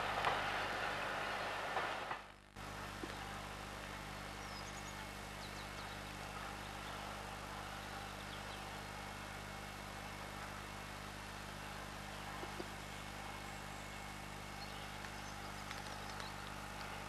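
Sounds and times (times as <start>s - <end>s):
background hiss: 0.0s - 17.0s
low hum: 0.0s - 17.0s.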